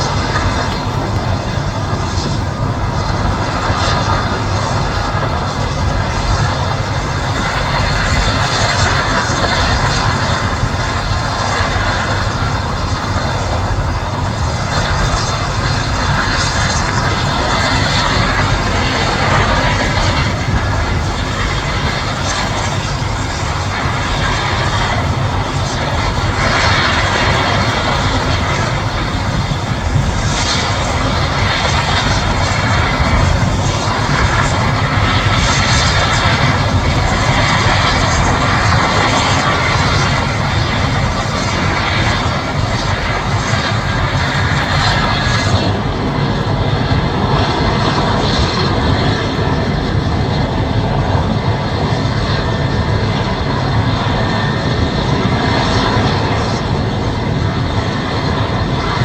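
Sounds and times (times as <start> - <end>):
helicopter engines and rotor roaring: 0.0 - 59.0.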